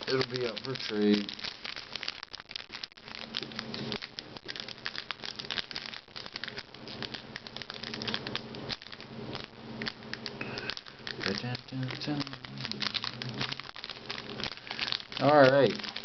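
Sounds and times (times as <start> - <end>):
foil wrapper crinkling: 0.0 - 16.0.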